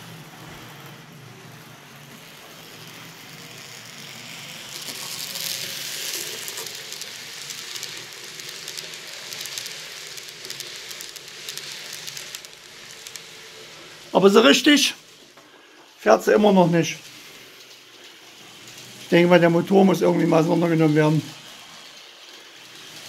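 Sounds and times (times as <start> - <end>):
model train motor hiss: 0.0 - 23.0
wheels clicking on rails: 0.0 - 23.0.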